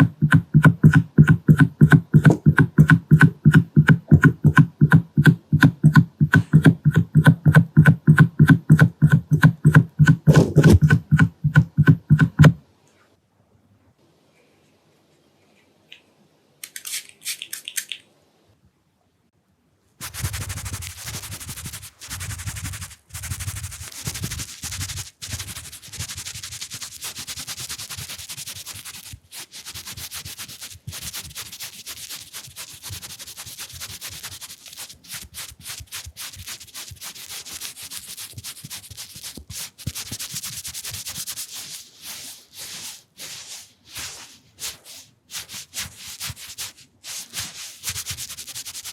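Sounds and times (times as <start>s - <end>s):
close-miked rubbing and scratching: 0.0s - 12.6s, 20.0s - 48.9s.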